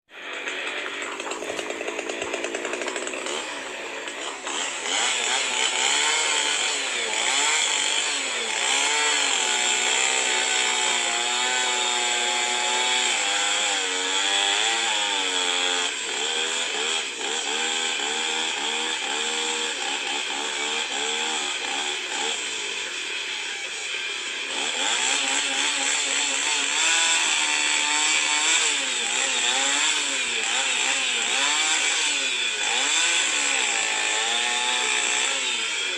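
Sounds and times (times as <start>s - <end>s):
chainsaw engine revving: 0.1s - 35.9s.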